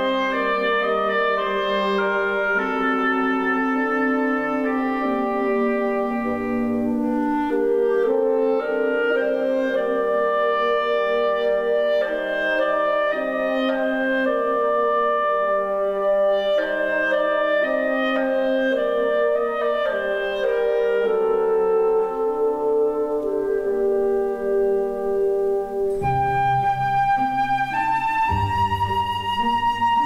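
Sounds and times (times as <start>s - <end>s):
instrumental ballet music: 0.0s - 30.0s.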